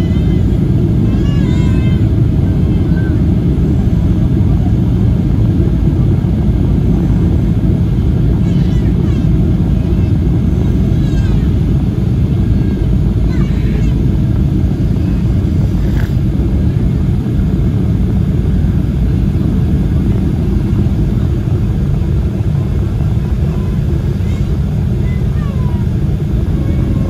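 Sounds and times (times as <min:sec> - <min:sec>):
jet engines humming: 0:00.0 - 0:27.0.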